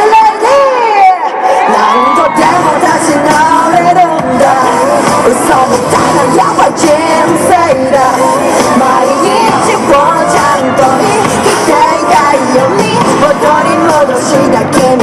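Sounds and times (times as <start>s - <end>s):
live pop song with singer: 0.0s - 15.0s.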